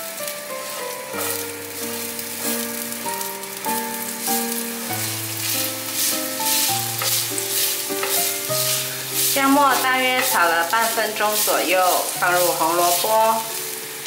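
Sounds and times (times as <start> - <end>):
background music: 0.0 - 14.0
ginger sizzling in hot oil: 0.0 - 14.0.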